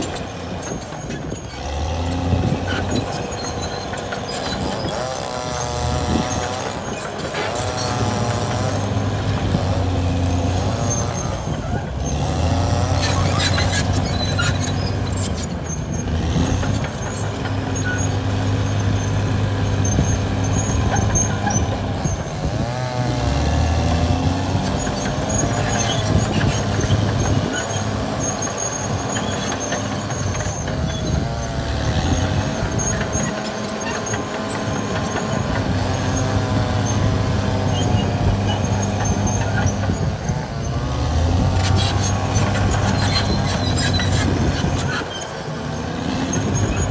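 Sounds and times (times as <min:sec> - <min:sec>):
bulldozer diesel engine: 0:00.0 - 0:46.9
squealing: 0:00.0 - 0:46.9.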